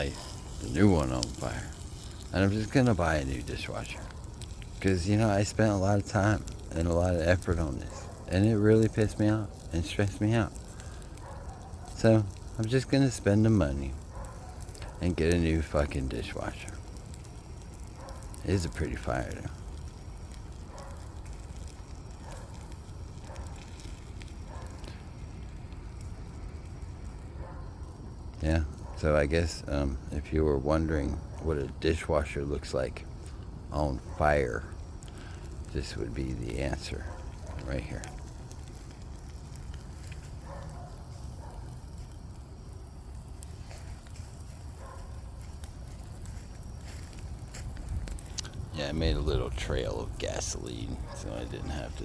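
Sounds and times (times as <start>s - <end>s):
fire rumbling and crackling: 0.0s - 52.0s.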